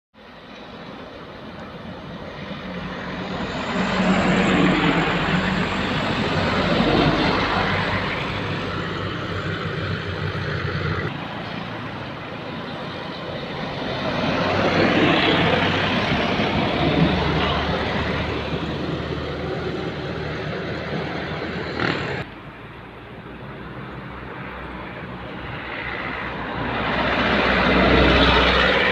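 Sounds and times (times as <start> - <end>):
heavy trucks driving past: 0.2 - 28.9.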